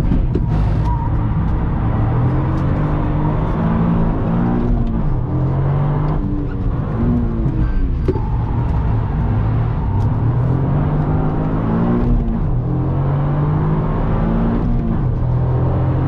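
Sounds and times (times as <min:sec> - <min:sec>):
car engine revving from cabin: 0:00.0 - 0:16.0.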